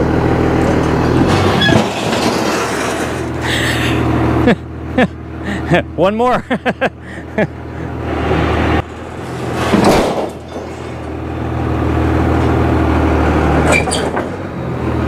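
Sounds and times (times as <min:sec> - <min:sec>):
truck engine under load: 0:00.0 - 0:15.0.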